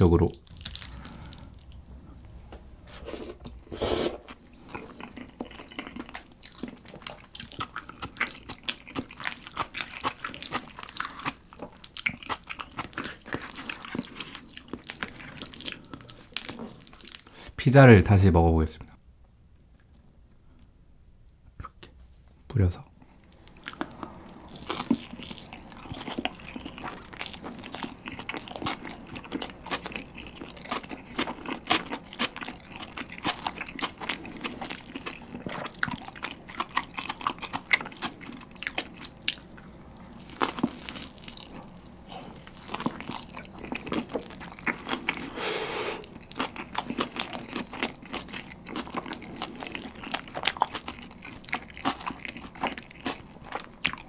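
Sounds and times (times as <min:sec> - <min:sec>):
person chewing crunchy pizza: 0:00.4 - 0:02.3, 0:02.9 - 0:17.4, 0:23.2 - 0:54.0.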